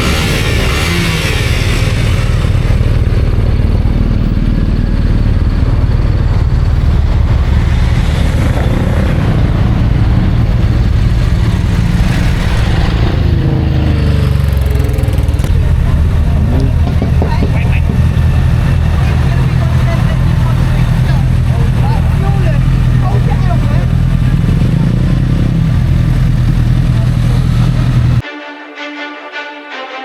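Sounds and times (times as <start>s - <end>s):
engines revving: 0.0s - 28.2s
motorcycle engines rumbling: 0.0s - 28.2s.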